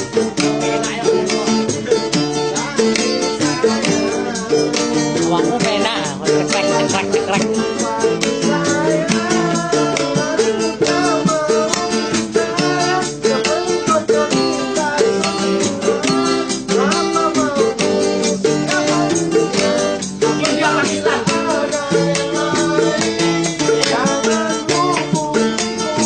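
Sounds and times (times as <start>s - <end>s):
acoustic guitars strumming: 0.0s - 26.0s
man singing: 0.0s - 26.0s.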